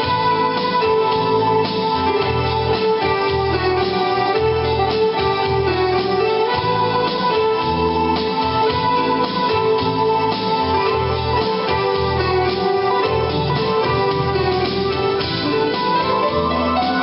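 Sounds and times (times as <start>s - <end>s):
instrumental song melody: 0.0s - 17.0s
pulsing bass: 0.0s - 17.0s.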